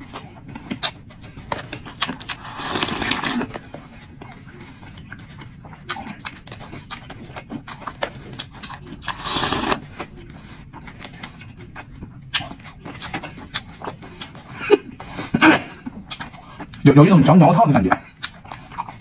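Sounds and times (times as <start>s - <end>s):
person chewing with mouth noises: 0.0s - 19.0s.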